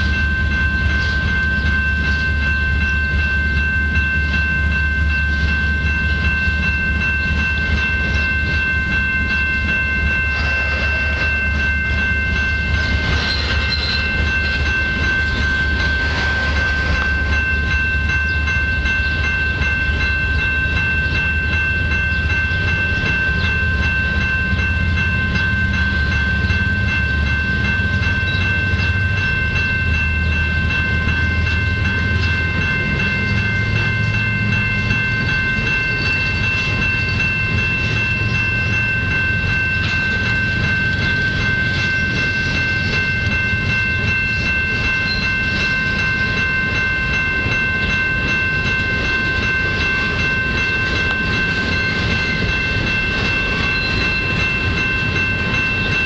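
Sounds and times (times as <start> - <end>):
freight train low rumble: 0.0 - 56.0
steady high whine: 0.0 - 56.0
wheels clattering on rails: 0.0 - 56.0.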